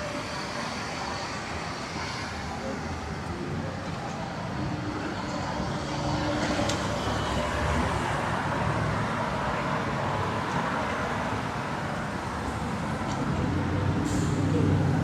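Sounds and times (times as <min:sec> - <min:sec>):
tyre and road noise: 0:00.0 - 0:15.0.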